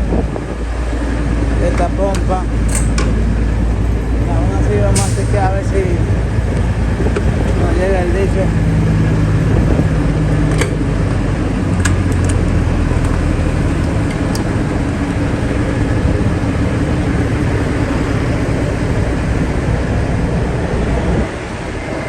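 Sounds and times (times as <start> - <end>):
diesel truck engines idling: 0.0 - 22.0.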